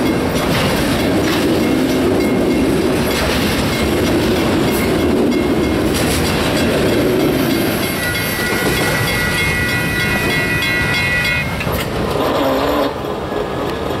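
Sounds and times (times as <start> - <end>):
crossing bell ringing: 0.0 - 12.8
freight train rolling on rails: 0.0 - 14.0.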